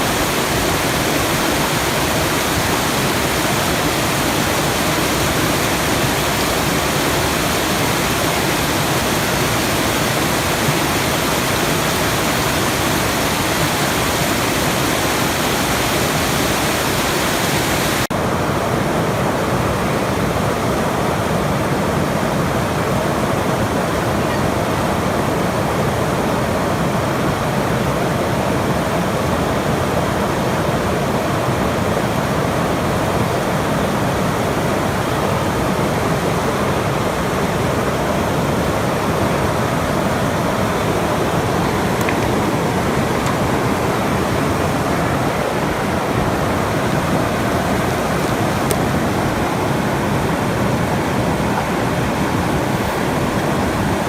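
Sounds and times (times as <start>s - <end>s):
falling water rushing: 0.0s - 54.0s.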